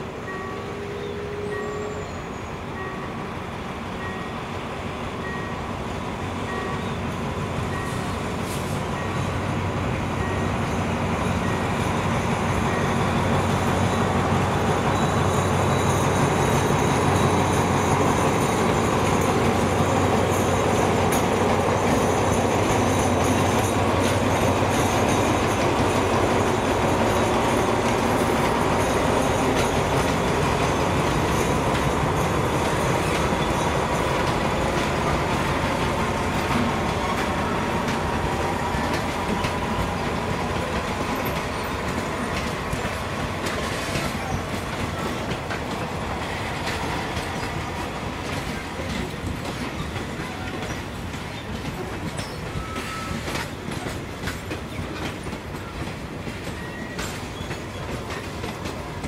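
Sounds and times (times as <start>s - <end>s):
diesel locomotive engine hum: 0.0s - 59.0s
train wheels rumbling on rail: 0.0s - 59.0s.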